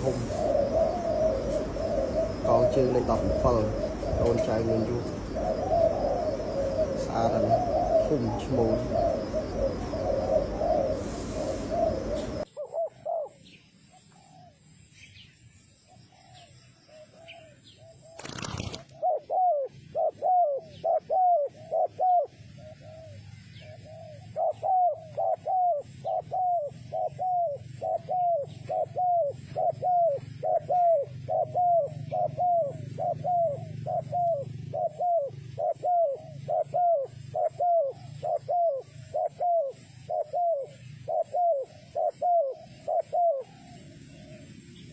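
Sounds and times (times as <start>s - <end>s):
dove cooing: 0.0s - 13.6s, 16.1s - 44.9s.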